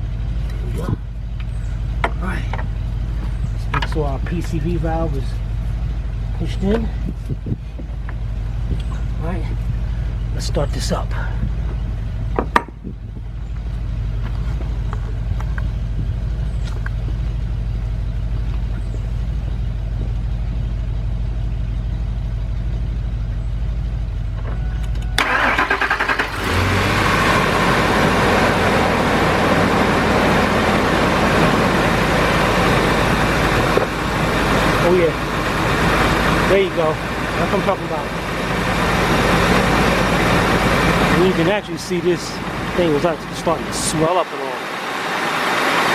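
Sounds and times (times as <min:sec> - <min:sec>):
car engine starting and idling: 0:00.0 - 0:45.9
low hum: 0:00.0 - 0:45.9.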